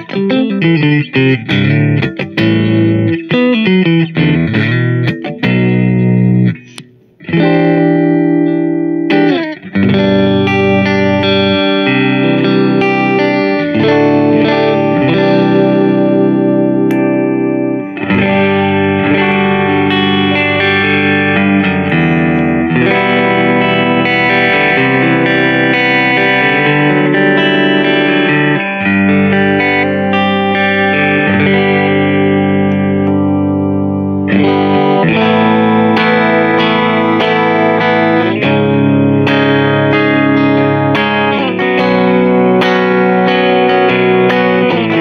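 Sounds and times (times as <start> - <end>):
amplified electric guitar: 0.0 - 45.0.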